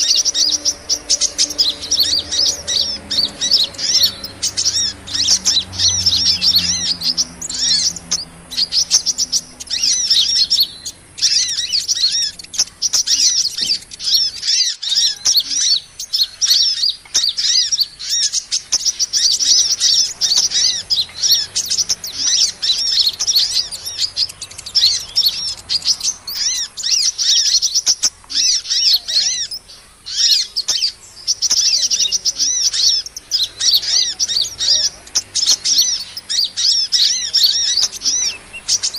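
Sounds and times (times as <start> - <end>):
high-pitched bird chirps: 0.0 - 38.9.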